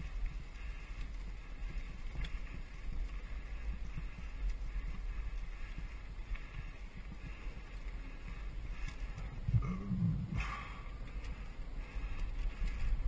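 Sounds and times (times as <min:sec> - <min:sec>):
bike rattling over trail: 0:00.0 - 0:13.0
wind rumble on microphone: 0:00.0 - 0:13.0.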